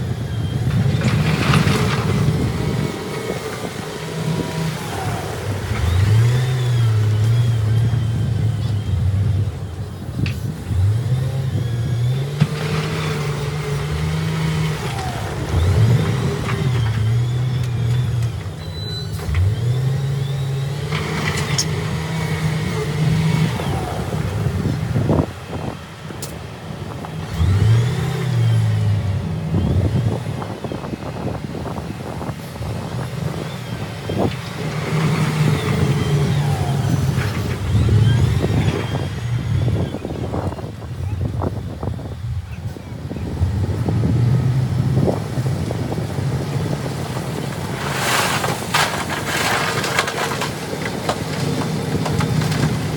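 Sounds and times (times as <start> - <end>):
diesel engine revving: 0.0 - 52.9.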